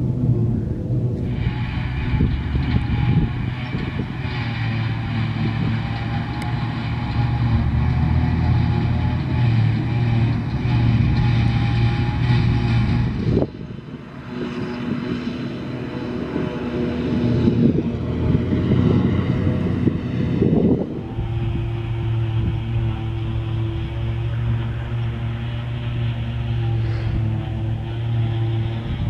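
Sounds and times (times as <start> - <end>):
heavy diesel engine drone: 0.0 - 29.0.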